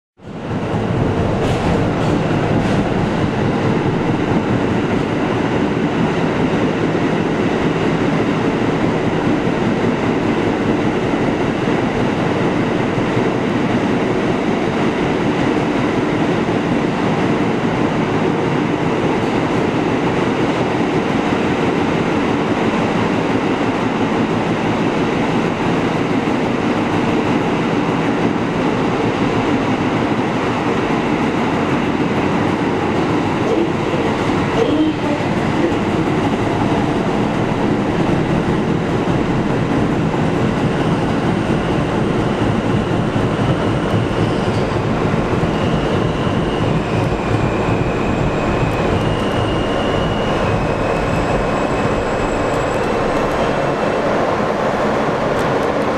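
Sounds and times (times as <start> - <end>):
subway train rumbling in tunnel: 0.2 - 55.9.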